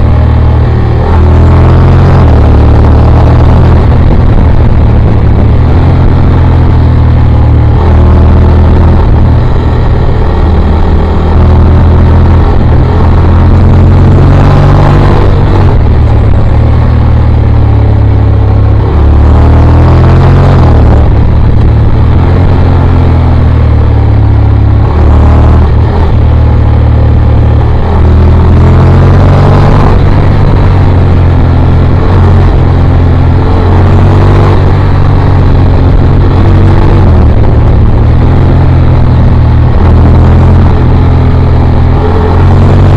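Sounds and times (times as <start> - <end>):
motorcycle engine accelerating hard: 0.0 - 42.9.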